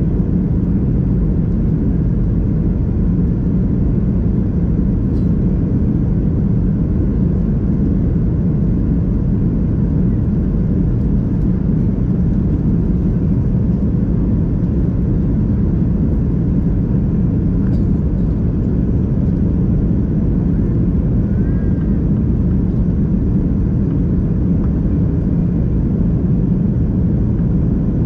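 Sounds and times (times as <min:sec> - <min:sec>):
airflow over fuselage: 0:00.0 - 0:28.0
jet engines in cabin: 0:00.0 - 0:28.0.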